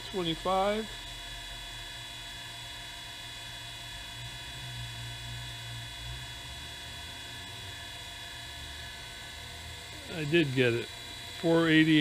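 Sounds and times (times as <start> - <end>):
electric machine hum: 0.0 - 12.0.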